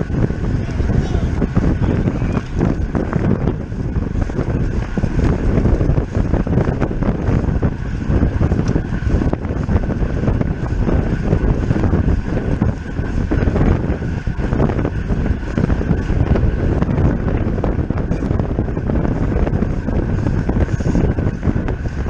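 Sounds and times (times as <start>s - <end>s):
bicycle ticking and rattling: 0.0s - 22.0s
wind rumble on microphone: 0.0s - 22.0s.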